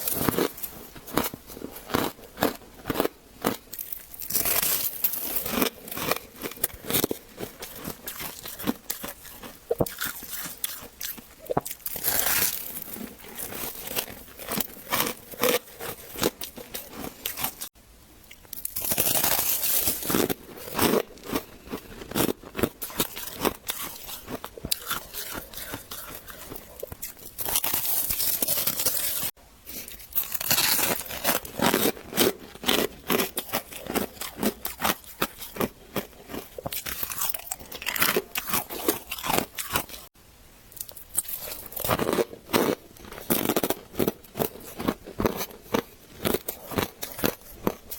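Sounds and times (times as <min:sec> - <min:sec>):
chewing crunchy frost: 0:00.0 - 0:40.1, 0:40.8 - 0:47.9.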